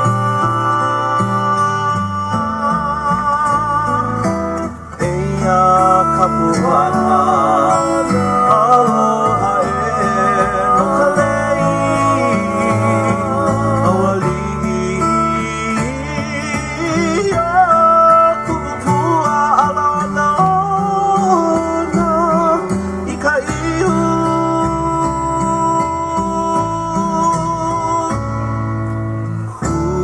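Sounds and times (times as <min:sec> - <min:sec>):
person singing with vibrato: 0:00.0 - 0:28.4
plucked guitar: 0:00.0 - 0:30.0.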